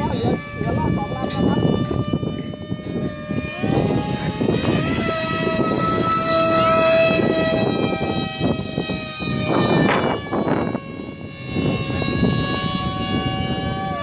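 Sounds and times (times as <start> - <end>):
model airplane motor whining: 0.0 - 14.0
wind buffeting microphone: 0.0 - 14.0.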